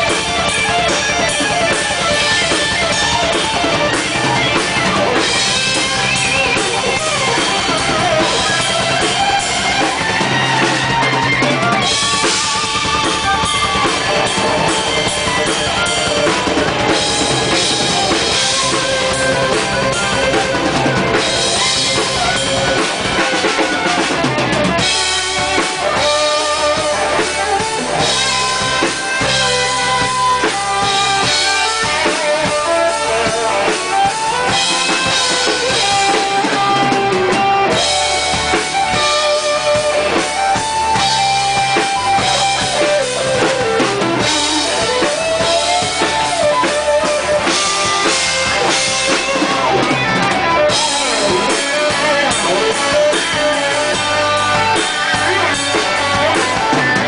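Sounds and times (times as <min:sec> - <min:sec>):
drum kit kick and snare: 0:00.0 - 0:57.0
metal band playing live: 0:00.0 - 0:57.0.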